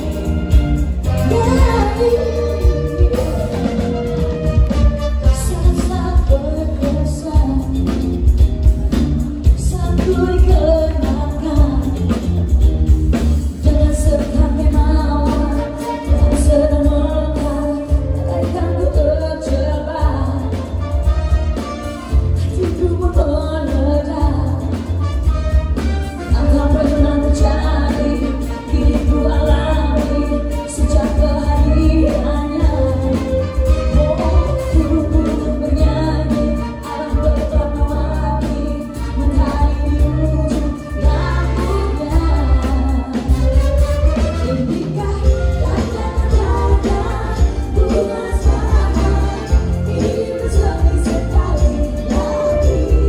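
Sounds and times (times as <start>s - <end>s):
live band playing pop song: 0.0s - 53.0s
woman singing: 0.9s - 12.6s, 13.4s - 21.0s, 21.9s - 25.3s, 26.1s - 53.0s.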